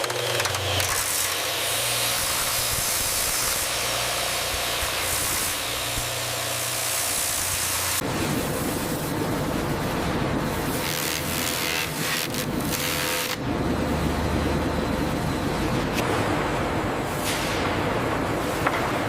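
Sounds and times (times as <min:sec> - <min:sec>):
industrial machinery noise: 0:00.0 - 0:19.0.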